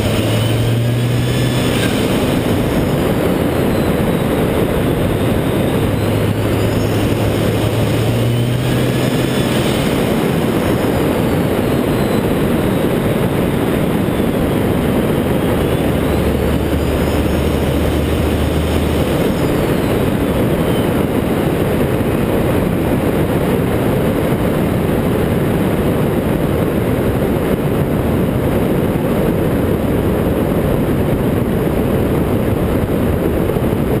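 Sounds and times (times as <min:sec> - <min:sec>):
diesel engine rumble: 0:00.0 - 0:34.0
road or wind noise: 0:00.0 - 0:34.0.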